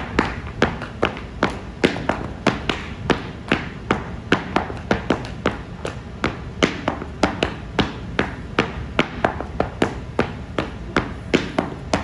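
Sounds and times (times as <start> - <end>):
dance shoes tapping on wooden board: 0.0 - 12.0.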